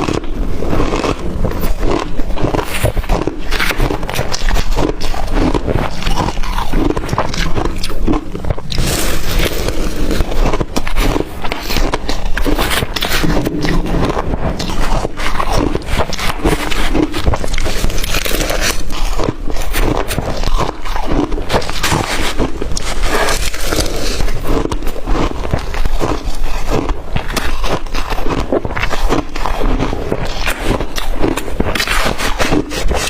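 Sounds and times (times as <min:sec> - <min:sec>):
crushed ice crunching: 0:00.0 - 0:33.0.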